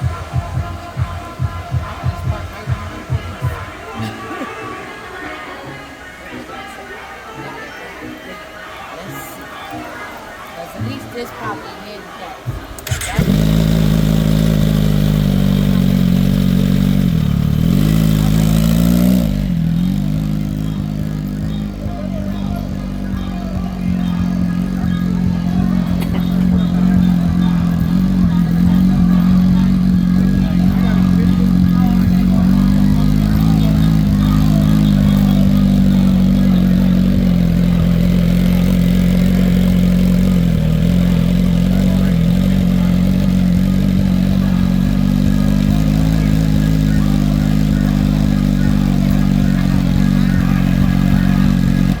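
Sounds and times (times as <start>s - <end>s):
motorcycle engine running: 0.0s - 4.2s, 12.4s - 52.0s.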